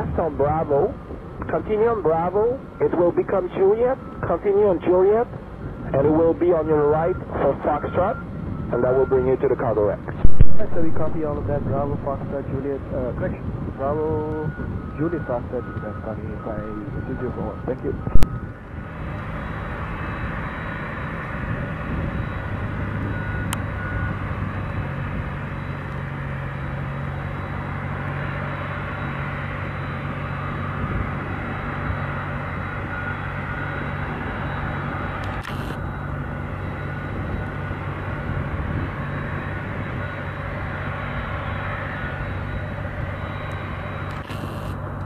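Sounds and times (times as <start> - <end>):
jet engines running: 0.0 - 45.0.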